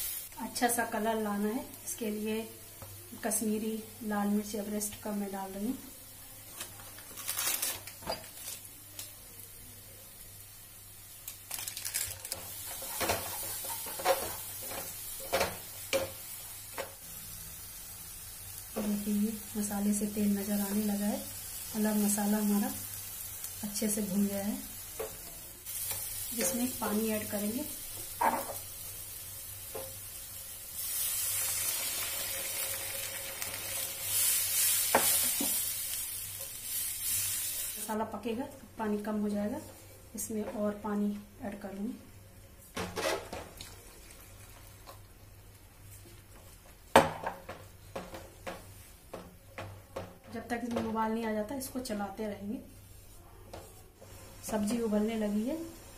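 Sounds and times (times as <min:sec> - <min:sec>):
masala sizzling in oil: 0:00.0 - 0:49.4, 0:50.4 - 0:55.9.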